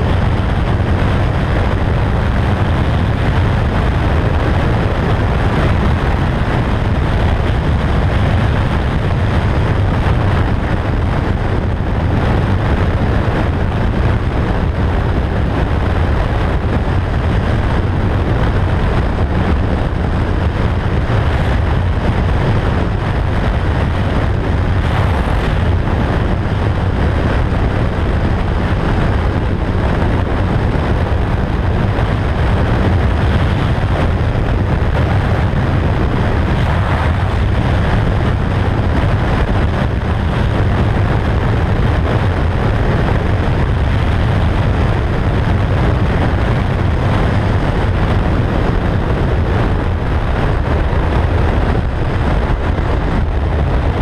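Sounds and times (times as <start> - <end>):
wind noise: 0.0 - 54.0.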